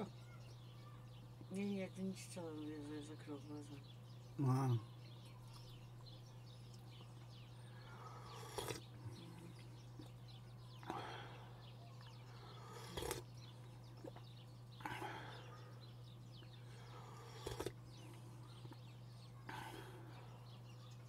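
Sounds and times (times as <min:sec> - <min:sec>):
faint chirping: 0:00.0 - 0:21.0
steady low hum: 0:00.0 - 0:21.0.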